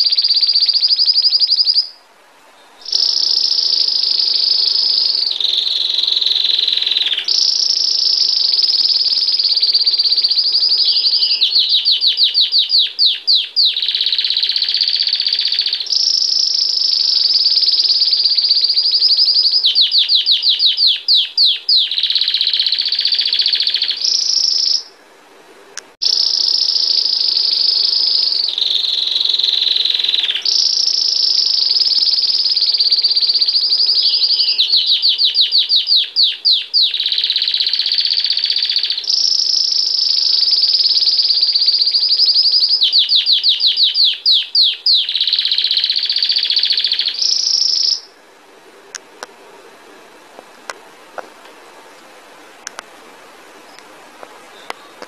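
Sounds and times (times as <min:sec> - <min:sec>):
canary singing: 0:00.0 - 0:25.0, 0:25.8 - 0:48.2, 0:53.6 - 0:55.0.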